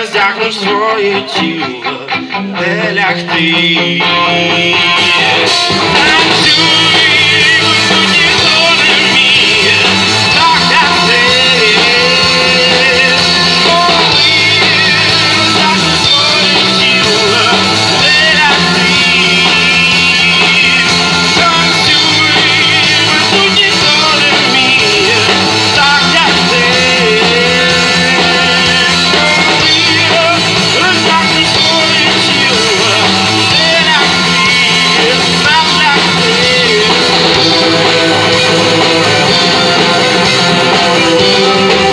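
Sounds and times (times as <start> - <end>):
drum kit: 0.0 - 41.9
electric guitar: 0.0 - 41.9.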